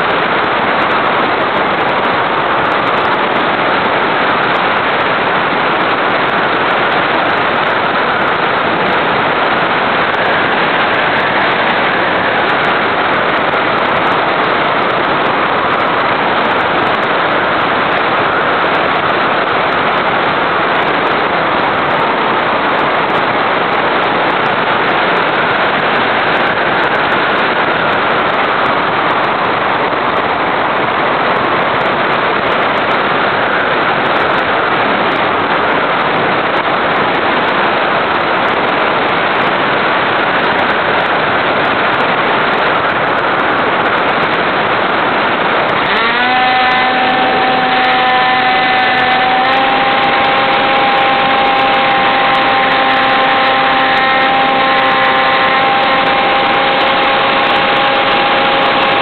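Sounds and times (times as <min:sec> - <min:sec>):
faint motor whine: 0:00.0 - 0:59.0
wind and motor rushing: 0:00.0 - 0:59.0.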